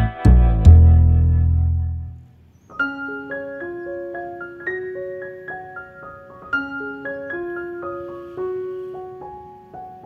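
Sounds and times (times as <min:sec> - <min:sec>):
piano-like keyboard melody: 0:00.0 - 0:10.0.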